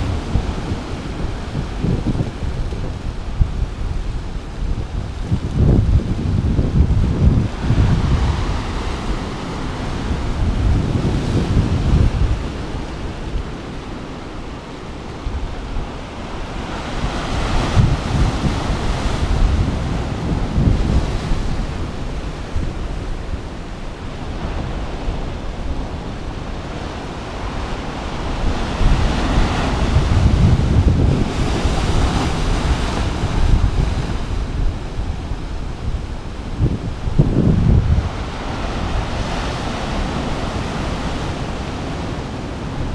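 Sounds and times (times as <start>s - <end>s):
sea waves breaking on rocks: 0.0s - 42.9s
wind buffeting microphone: 0.0s - 42.9s.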